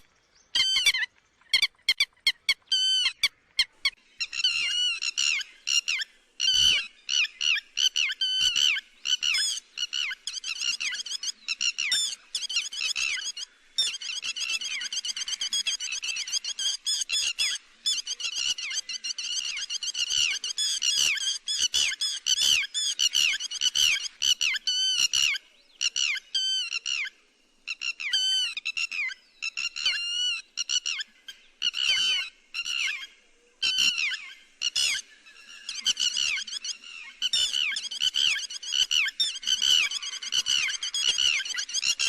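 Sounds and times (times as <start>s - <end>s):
lapwing calling: 0.0s - 42.0s.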